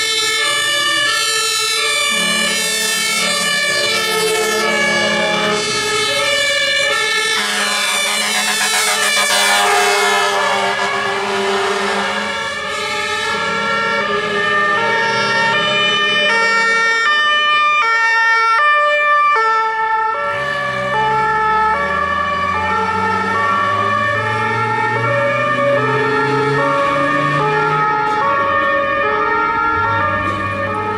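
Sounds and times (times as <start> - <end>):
fire engine two-tone sirens: 0.0 - 30.9.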